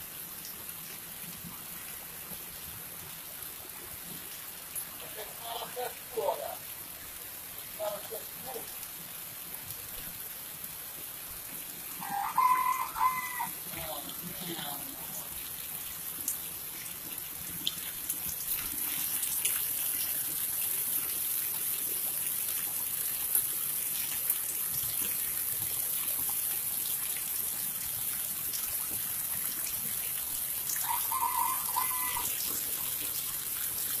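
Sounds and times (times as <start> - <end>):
heavy rain pouring: 0.0 - 34.0
water drips and splashes: 0.0 - 34.0.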